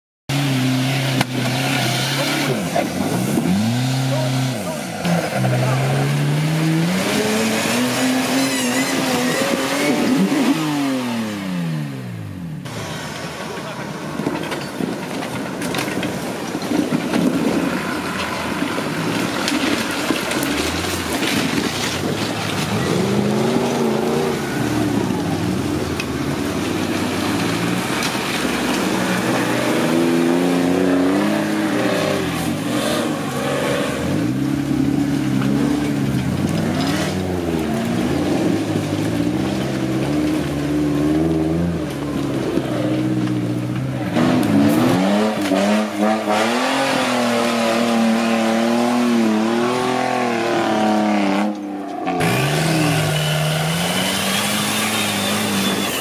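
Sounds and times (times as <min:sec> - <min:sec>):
off-road vehicle engines revving: 0:00.3 - 0:56.0.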